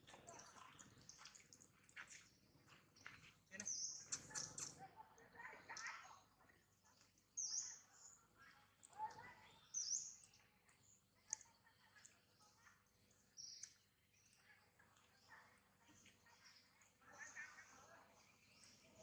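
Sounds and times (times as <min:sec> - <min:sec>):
faint high bird chirps: 0:00.0 - 0:19.0.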